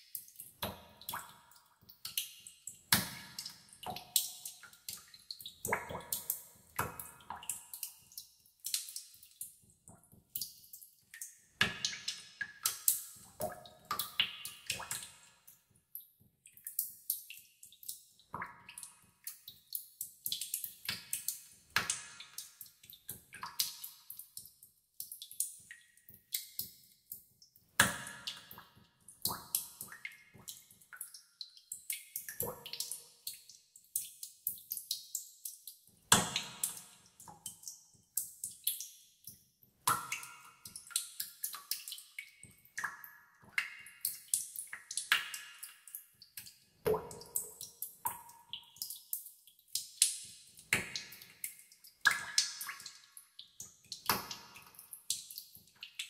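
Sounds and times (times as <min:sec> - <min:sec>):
water dripping in cave: 0:00.0 - 0:56.0.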